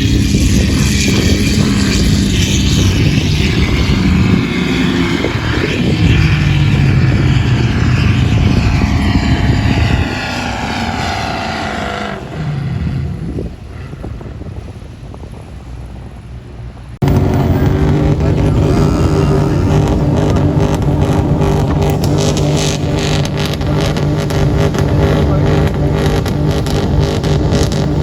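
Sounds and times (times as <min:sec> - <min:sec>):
vehicle engine running hard: 0:00.0 - 0:28.0
wind rushing: 0:00.0 - 0:28.0.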